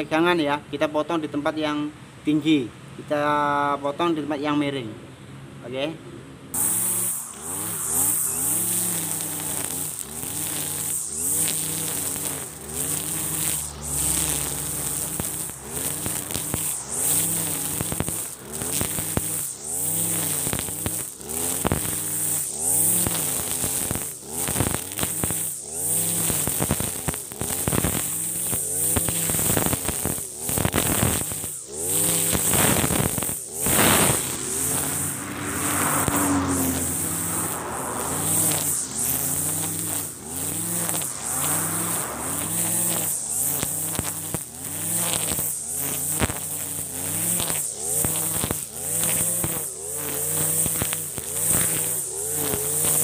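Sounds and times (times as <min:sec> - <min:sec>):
brush cutter engine revving: 0:06.6 - 0:53.0.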